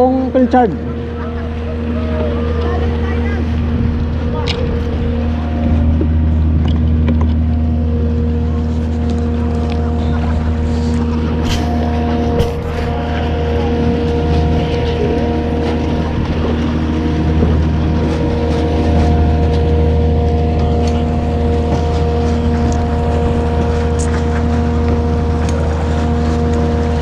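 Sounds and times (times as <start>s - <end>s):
motorboat engine droning: 0.0s - 27.0s.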